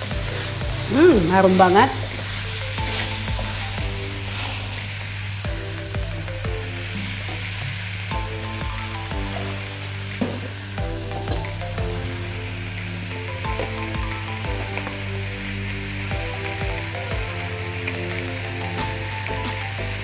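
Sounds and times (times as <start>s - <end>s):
background music with beat: 0.0s - 20.0s
chicken sizzling in a wok: 0.0s - 20.0s.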